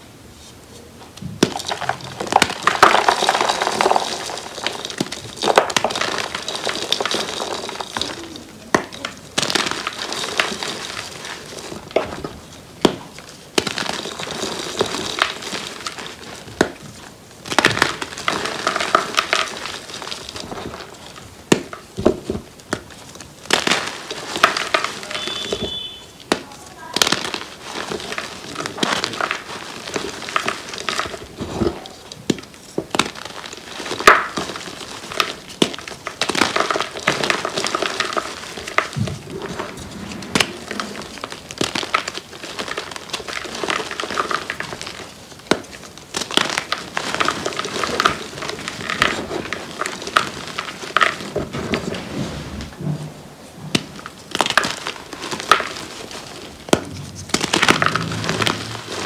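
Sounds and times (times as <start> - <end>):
chalk crunching and crumbling: 0.3 - 59.0.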